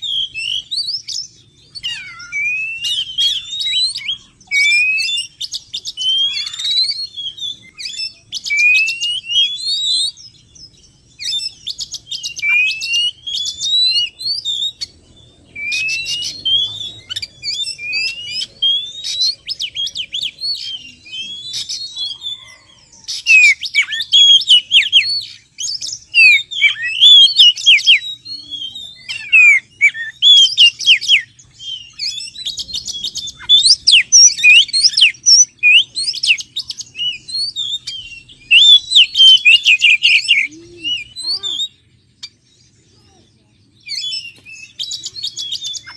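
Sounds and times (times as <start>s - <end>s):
bird whistling song: 0.0s - 45.9s.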